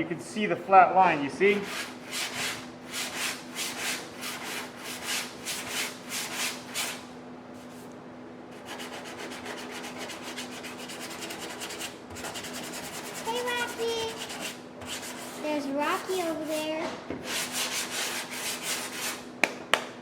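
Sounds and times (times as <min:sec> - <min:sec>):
steady low hum: 0:00.0 - 0:20.0
sanding block scraping bodywork: 0:01.5 - 0:07.0, 0:08.6 - 0:19.2.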